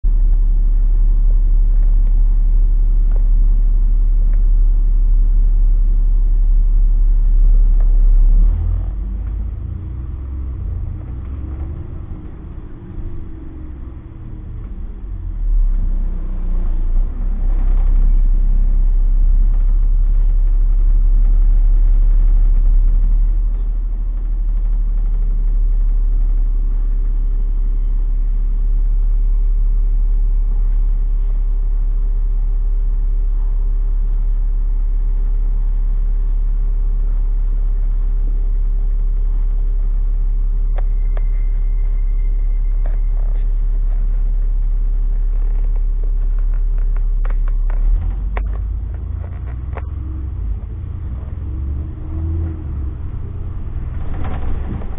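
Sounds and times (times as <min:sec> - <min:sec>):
bus engine rumbling: 0:00.0 - 0:54.9.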